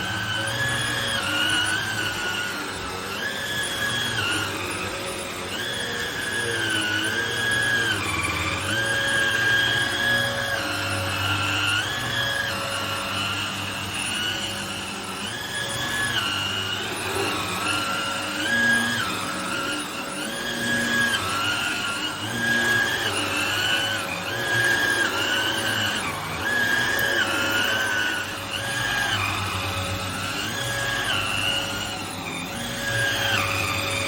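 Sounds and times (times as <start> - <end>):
vacuum cleaner running on carpet: 0.0 - 34.0.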